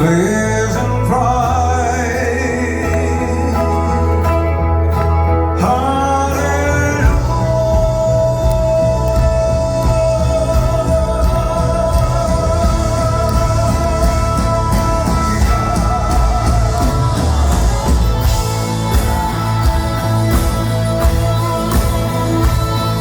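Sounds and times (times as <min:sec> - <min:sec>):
live rock band playing a ballad: 0:00.0 - 0:23.0.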